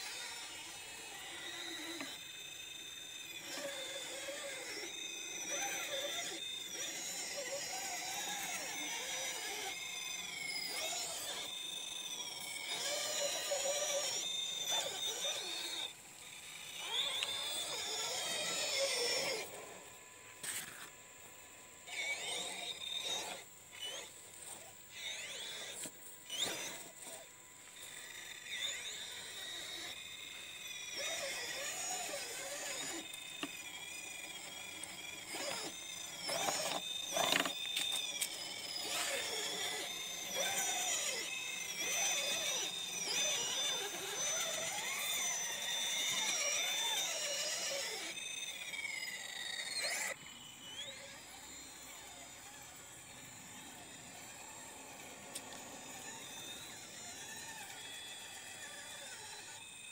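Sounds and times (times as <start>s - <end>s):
electric motor and gears whining: 0.0s - 59.9s.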